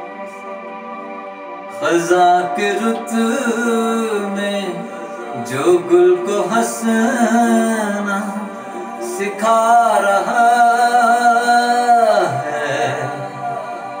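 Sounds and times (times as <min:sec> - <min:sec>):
man singing devotional song: 0:01.7 - 0:14.0.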